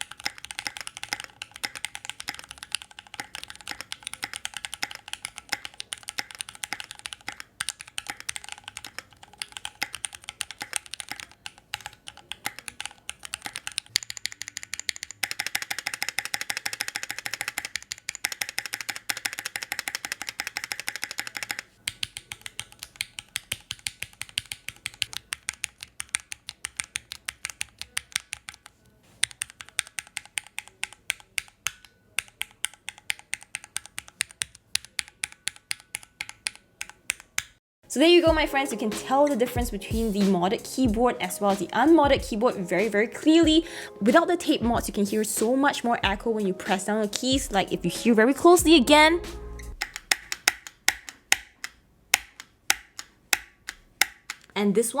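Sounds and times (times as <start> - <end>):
mechanical keyboard typing: 0.0 - 37.6, 38.8 - 48.8, 49.7 - 55.0.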